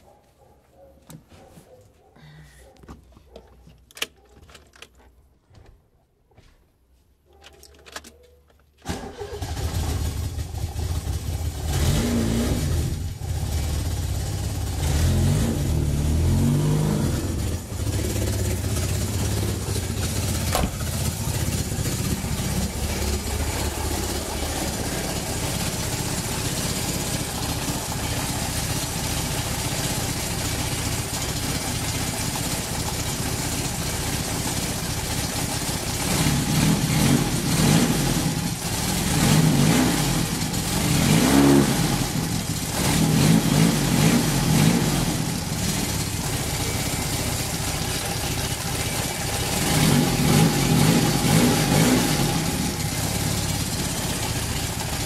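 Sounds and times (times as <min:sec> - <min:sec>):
car engine starting and revving: 0:08.8 - 0:55.0.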